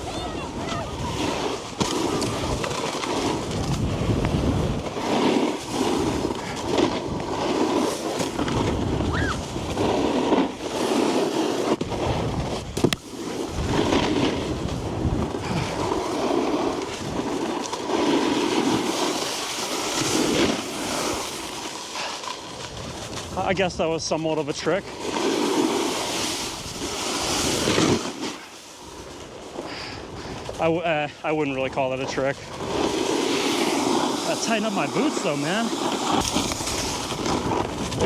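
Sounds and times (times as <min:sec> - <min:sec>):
snowboard edge scraping on ice: 0:00.0 - 0:38.0.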